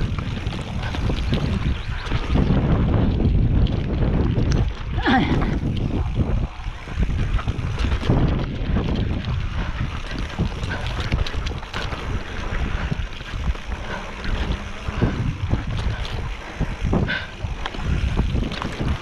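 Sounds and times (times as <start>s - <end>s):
bike rattling and knocking: 0.0s - 19.0s
tyres rumbling over dirt: 0.0s - 19.0s
wind buffeting microphone: 0.0s - 19.0s.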